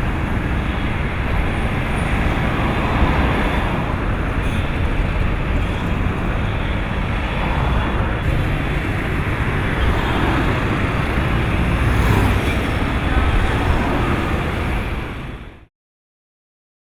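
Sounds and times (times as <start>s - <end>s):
vehicle engines: 0.0s - 15.7s.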